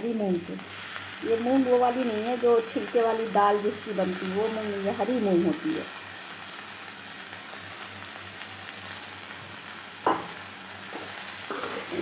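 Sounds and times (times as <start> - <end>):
beans sizzling in hot oil: 0.0 - 12.0.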